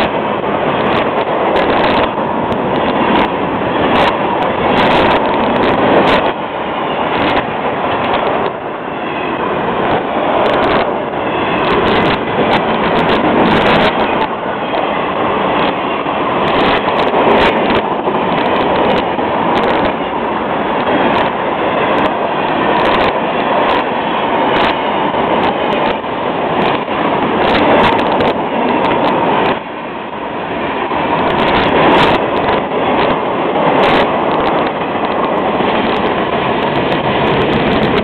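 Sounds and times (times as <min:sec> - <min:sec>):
sharp clicks from wheels: 0:00.0 - 0:38.0
steel wheels rumbling on rail: 0:00.0 - 0:38.0.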